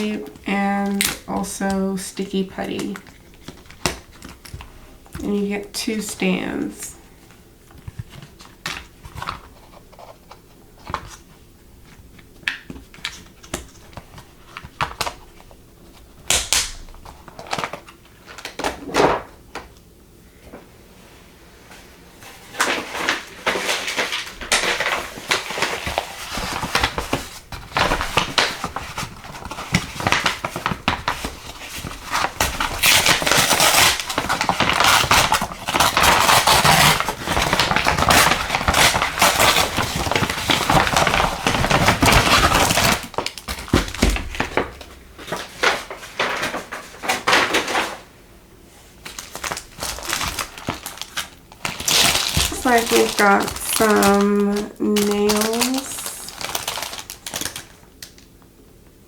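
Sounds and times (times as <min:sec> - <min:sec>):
packaging crinkling and clattering: 0:00.0 - 0:06.6, 0:07.2 - 0:19.8, 0:22.2 - 0:58.5.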